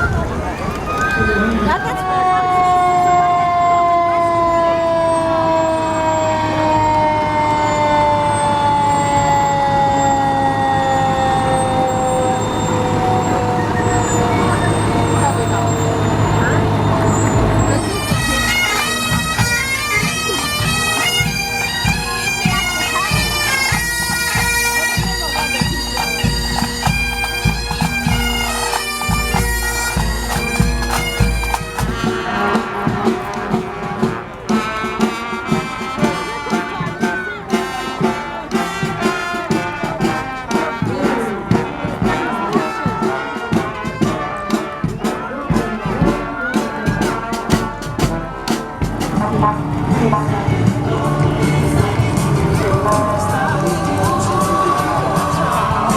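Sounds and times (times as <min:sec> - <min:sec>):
bagpipes playing: 0:01.2 - 0:55.9
marching drums: 0:05.0 - 0:55.9.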